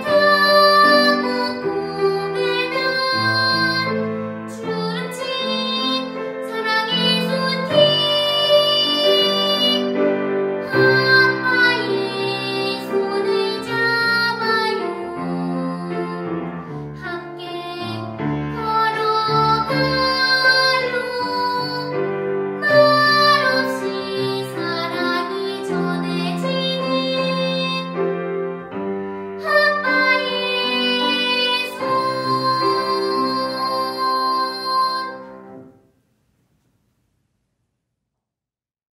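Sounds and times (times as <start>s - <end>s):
girl singing classically: 0.0s - 16.4s, 17.0s - 28.2s, 29.4s - 35.6s
piano accompaniment: 0.0s - 35.9s.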